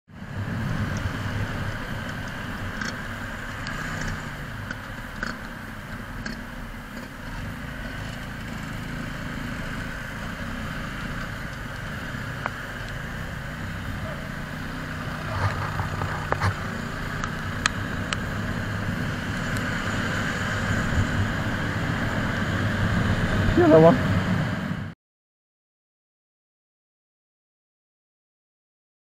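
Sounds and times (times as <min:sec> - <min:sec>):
motorcycle engine running: 0:00.1 - 0:24.9
road and traffic noise: 0:00.1 - 0:25.0.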